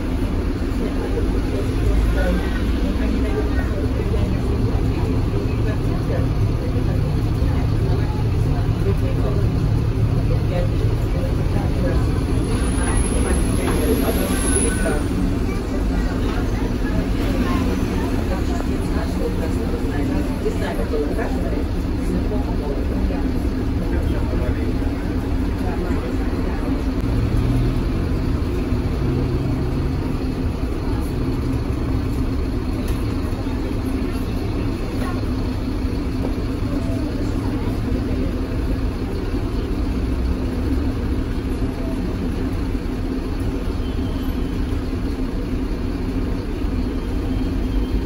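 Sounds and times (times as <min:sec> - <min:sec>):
tram rumbling on rails: 0:00.0 - 0:48.0.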